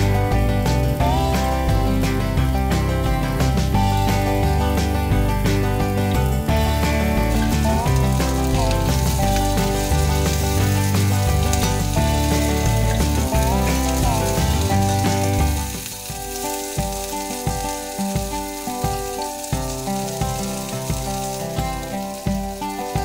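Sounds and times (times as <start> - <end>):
background music: 0.0 - 23.0
chicken sizzling in oil: 0.0 - 23.0.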